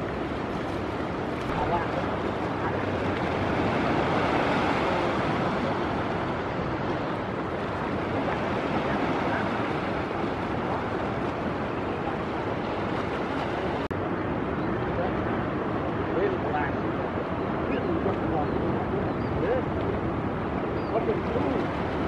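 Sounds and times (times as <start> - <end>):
ocean waves breaking: 0.0 - 22.0.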